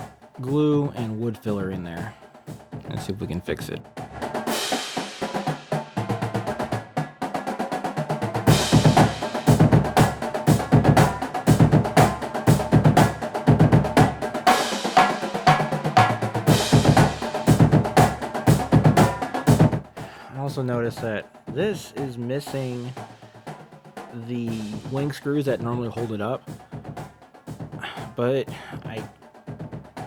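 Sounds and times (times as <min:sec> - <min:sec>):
heavy low drums: 0:00.0 - 0:30.0
music with fast drum beat: 0:00.0 - 0:30.0.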